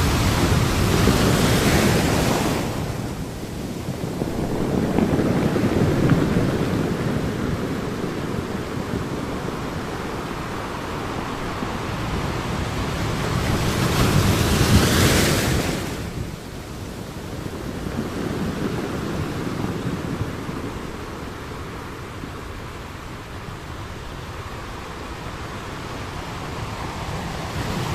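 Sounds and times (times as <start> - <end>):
ocean waves breaking: 0.0 - 27.9.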